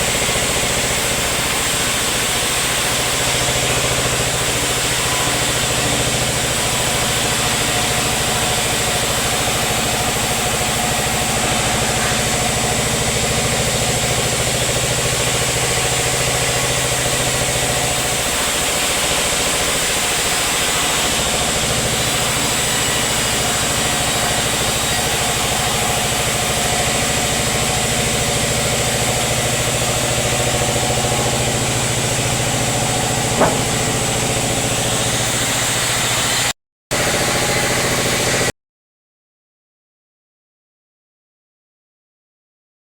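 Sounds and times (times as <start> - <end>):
sawmill machinery humming: 0.0 - 38.5.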